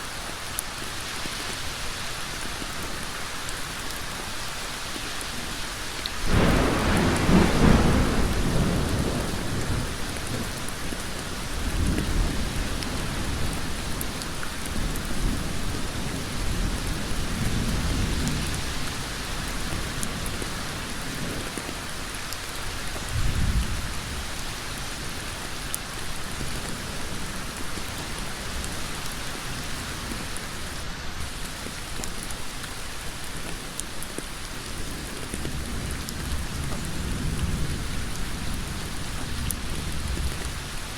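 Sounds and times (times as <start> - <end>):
heavy rain on a road: 0.0 - 40.9.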